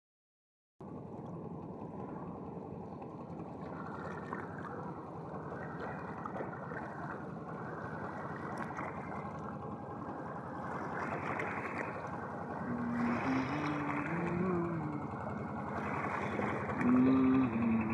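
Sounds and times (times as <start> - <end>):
boat engine running: 0.8 - 17.9
water washing alongside boat: 0.8 - 17.9.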